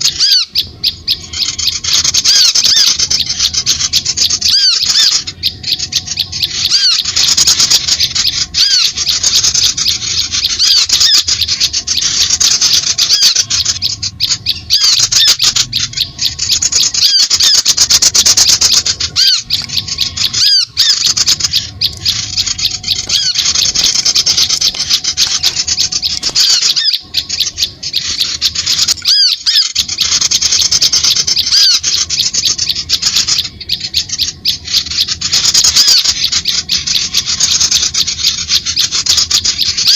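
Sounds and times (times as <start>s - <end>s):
small birds chattering and chirping: 0.0s - 39.9s.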